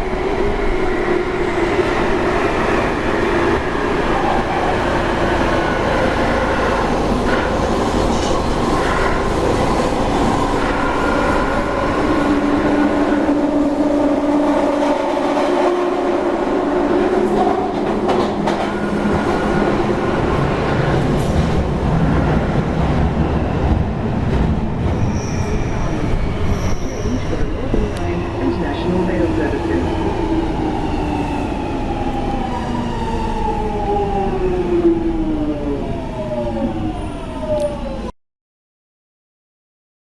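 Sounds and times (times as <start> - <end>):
train wheels rumbling on rail: 0.0 - 34.1.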